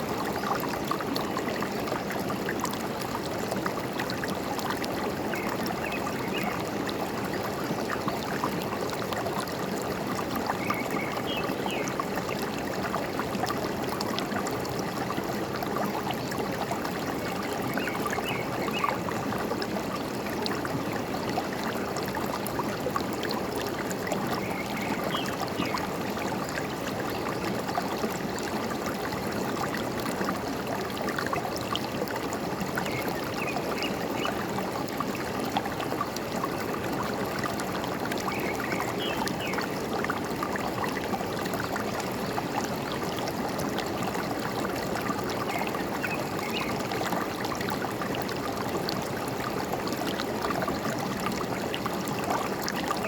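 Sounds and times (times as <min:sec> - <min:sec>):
forest stream babbling: 0:00.0 - 0:53.0.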